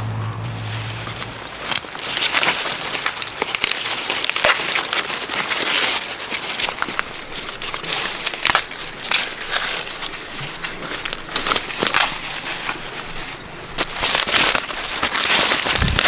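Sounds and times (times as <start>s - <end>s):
dry corn plants rustling: 0.0s - 16.0s.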